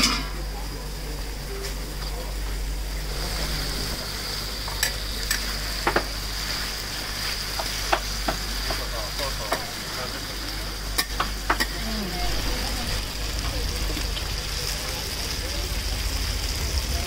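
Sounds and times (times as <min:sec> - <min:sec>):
vegetables sizzling in a pan: 0:02.9 - 0:17.0.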